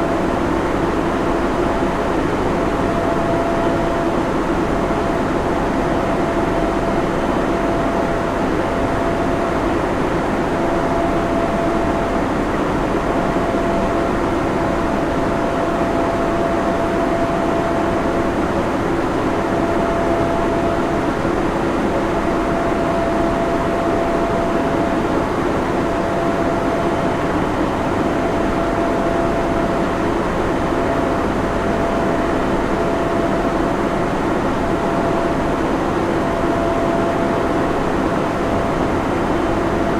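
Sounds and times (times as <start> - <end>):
cooling fans humming: 0.0 - 39.9
steady mid-pitched tone: 1.4 - 39.5.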